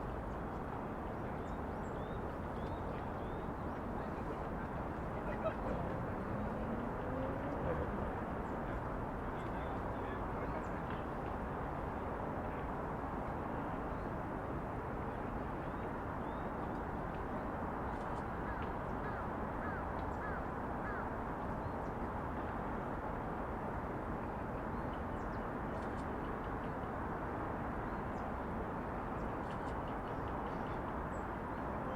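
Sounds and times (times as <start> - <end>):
city background hum: 0.0 - 31.9.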